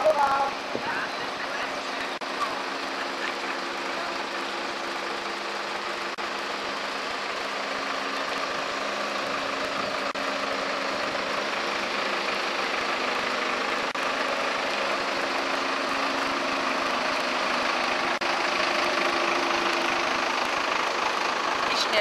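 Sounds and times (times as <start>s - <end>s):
broad mechanical noise: 0.0s - 22.0s
truck engine running: 0.0s - 22.0s.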